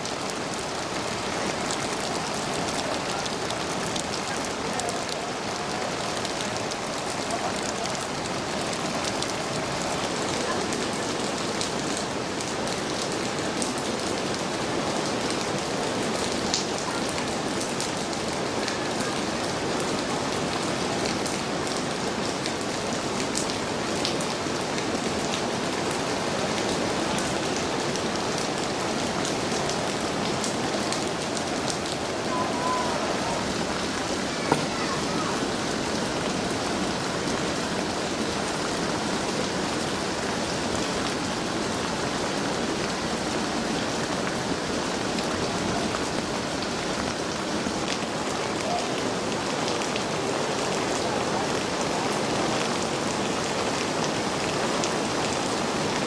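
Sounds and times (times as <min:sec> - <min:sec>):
heavy rain hiss: 0:00.0 - 0:56.0
rushing swollen stream: 0:00.0 - 0:56.0.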